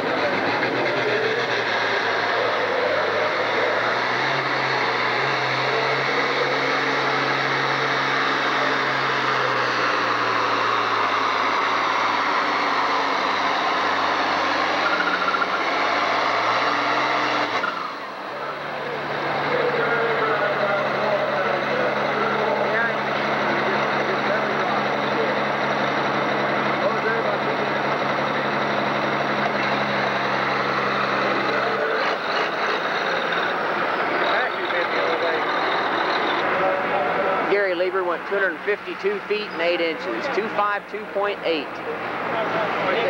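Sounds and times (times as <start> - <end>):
loud even background noise: 0.0 - 43.0
tractor diesel engine at full throttle: 0.0 - 43.0.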